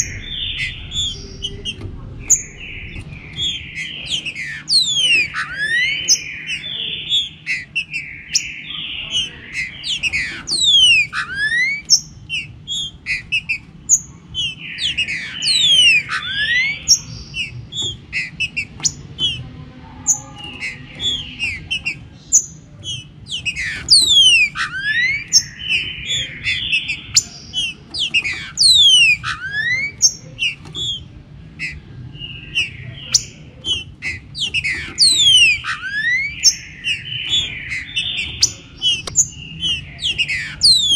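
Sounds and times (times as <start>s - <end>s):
bird whistled song: 0.0s - 19.5s, 20.1s - 40.9s
faint low hum: 0.0s - 40.9s.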